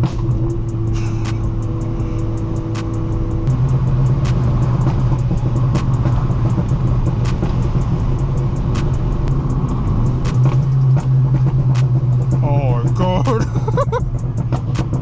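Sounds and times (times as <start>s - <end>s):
car engine running: 0.0s - 15.0s
sharp exhaust pops: 0.0s - 15.0s.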